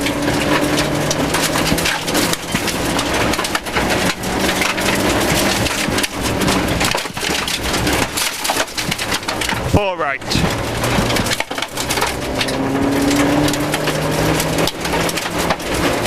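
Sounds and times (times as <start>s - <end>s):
car engine pulling: 0.0s - 16.0s
gravel pelting car underside: 0.0s - 16.0s.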